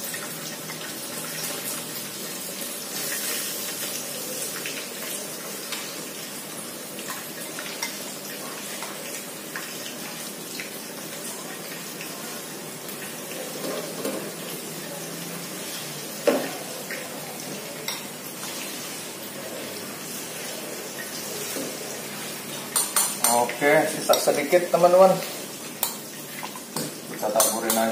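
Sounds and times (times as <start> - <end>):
fish sizzling in hot oil: 0.0 - 27.9.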